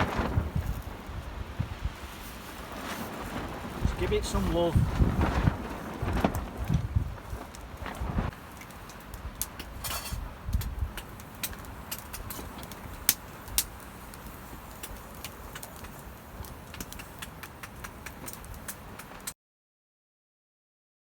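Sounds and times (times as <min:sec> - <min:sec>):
fire crackling and popping: 0:00.0 - 0:19.4.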